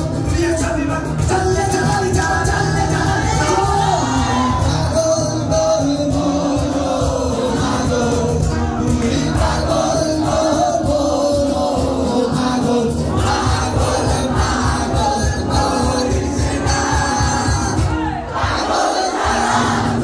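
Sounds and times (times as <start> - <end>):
crowd singing along: 0.0 - 20.0
guitar: 0.0 - 20.0
man singing into microphone: 0.0 - 20.0
steady drum beat: 0.0 - 20.0.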